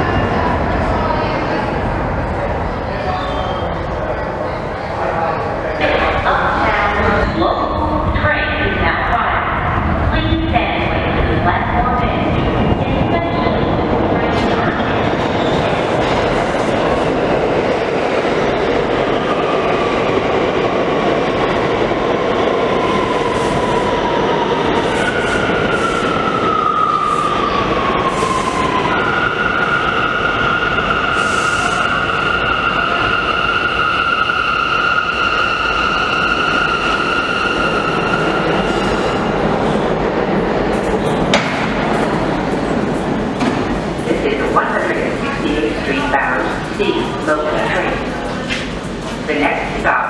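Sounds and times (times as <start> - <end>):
subway train wheels rumbling on rails: 0.0 - 50.0.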